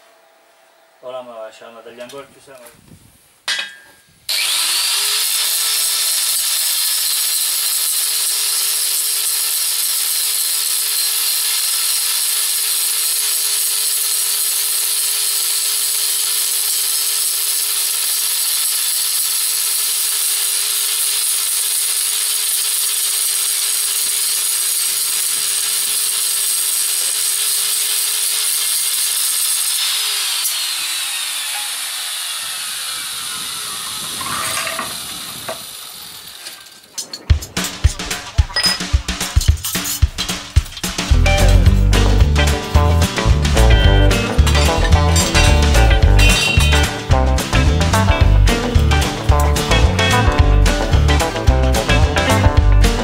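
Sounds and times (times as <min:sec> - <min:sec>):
angle grinder cutting steel: 0:04.3 - 0:53.0.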